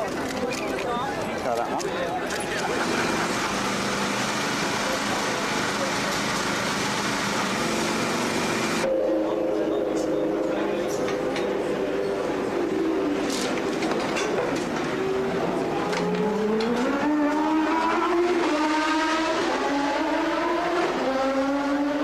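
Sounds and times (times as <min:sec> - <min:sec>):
racing car engines running: 0:02.2 - 0:22.0.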